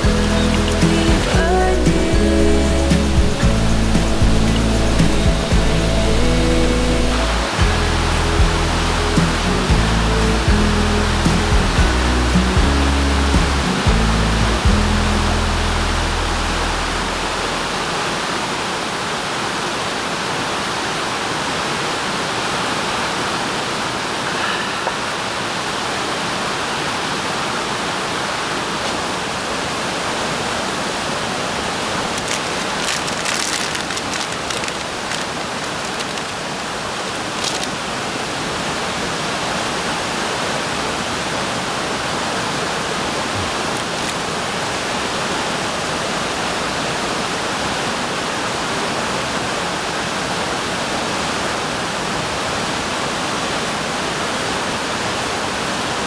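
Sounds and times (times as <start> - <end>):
rushing water-like noise: 0.0 - 56.0.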